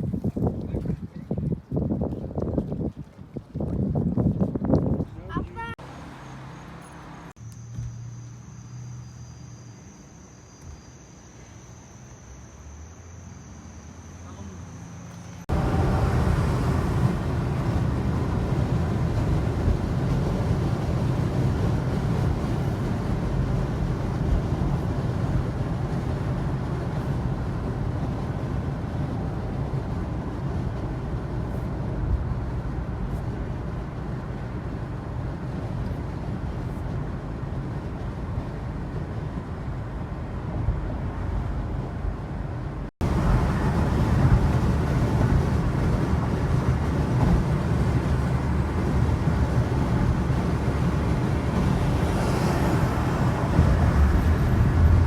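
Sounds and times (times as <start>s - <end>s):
vehicle rumble: 4.2s - 55.0s.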